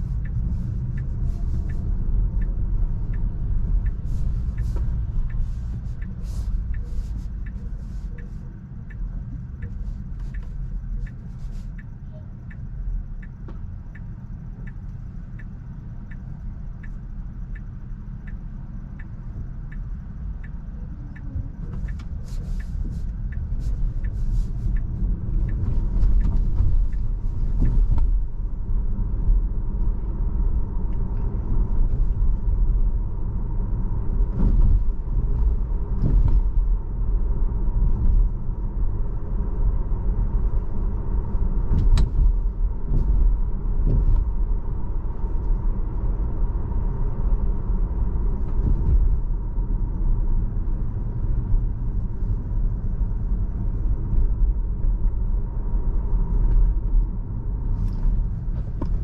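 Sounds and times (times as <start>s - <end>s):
road and tyre rumble in car: 0.0s - 59.0s
turn signal ticking: 0.0s - 59.0s.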